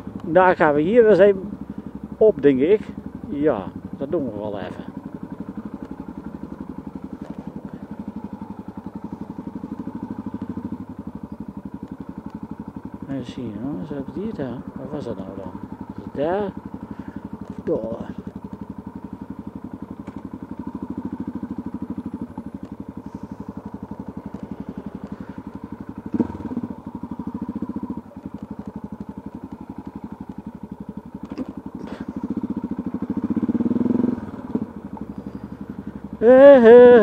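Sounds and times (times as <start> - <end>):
motorcycle engine at low revs: 0.0 - 37.0.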